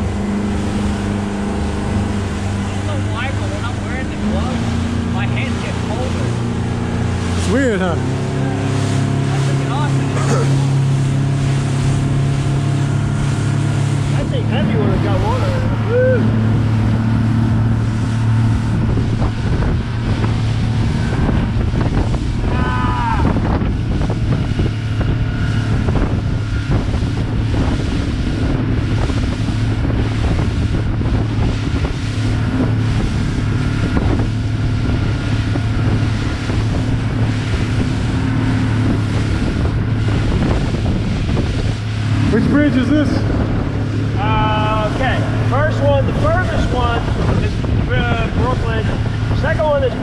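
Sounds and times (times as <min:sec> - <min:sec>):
boat motor running: 0:00.0 - 0:50.0
water rushing past hull: 0:00.0 - 0:50.0
wind buffeting microphone: 0:00.0 - 0:50.0.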